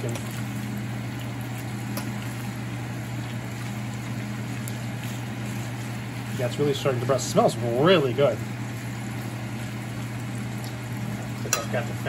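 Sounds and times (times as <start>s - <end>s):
bacon sizzling in a frying pan: 0.0s - 12.0s
range hood fan humming: 0.0s - 12.0s.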